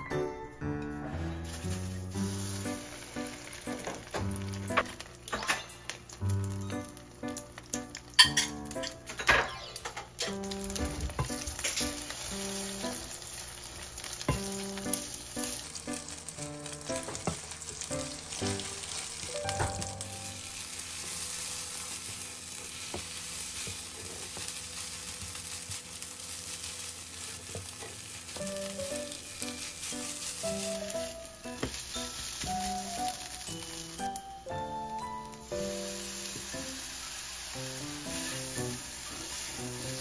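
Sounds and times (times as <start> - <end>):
rice sizzling in oil: 1.4 - 9.0, 10.4 - 40.0.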